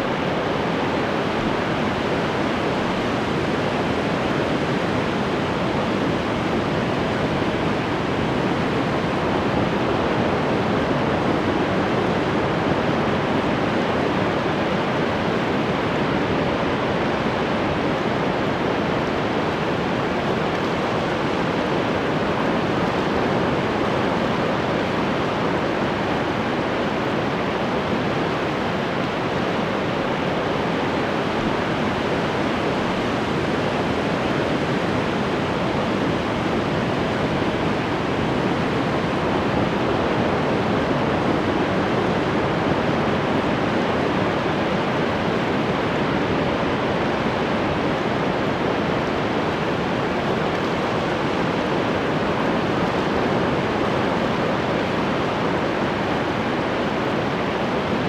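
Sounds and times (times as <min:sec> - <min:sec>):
ocean waves washing on shore: 0:00.0 - 0:58.0.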